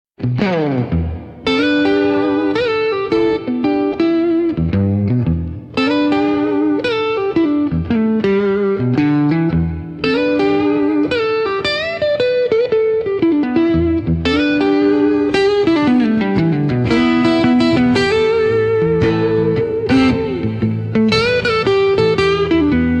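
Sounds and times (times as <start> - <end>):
plucked guitar melody: 0.2 - 23.0.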